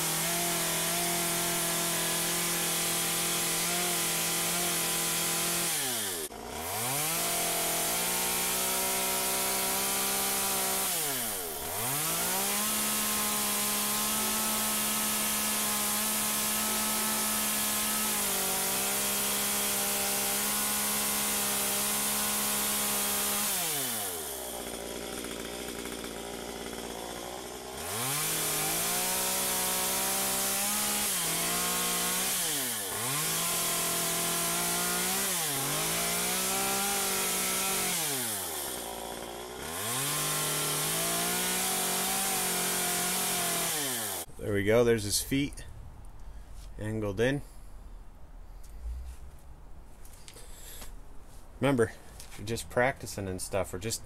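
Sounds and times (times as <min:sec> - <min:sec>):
chainsaw cutting wood: 0:00.0 - 0:44.3.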